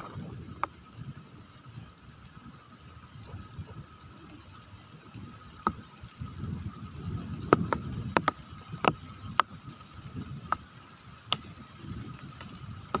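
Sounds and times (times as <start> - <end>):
large raindrops striking a surface: 0.0 - 13.0
low rumbling background: 0.0 - 13.0.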